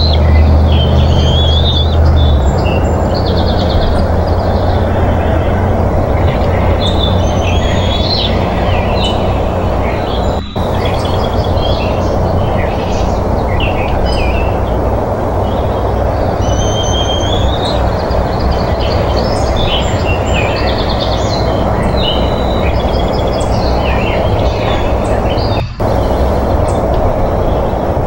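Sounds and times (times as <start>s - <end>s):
birds chirping and whistling: 0.0s - 28.0s
steady rushing noise: 0.0s - 28.0s.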